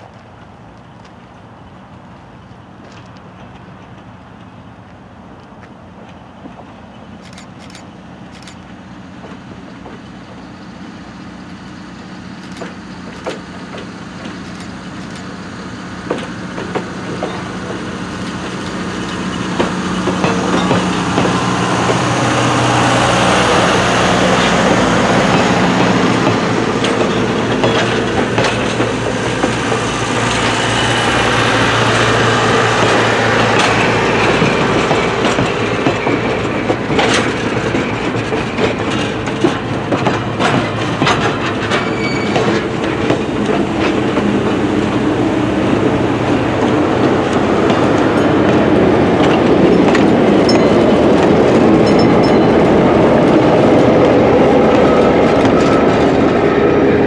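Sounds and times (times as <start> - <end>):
diesel locomotive engine hum: 0.0 - 57.0
train wheels clicking over rail joints: 0.0 - 57.0.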